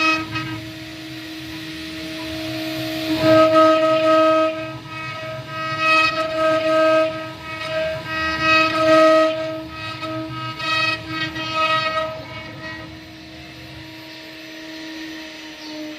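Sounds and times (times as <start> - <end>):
router spindle whining: 0.0 - 15.9.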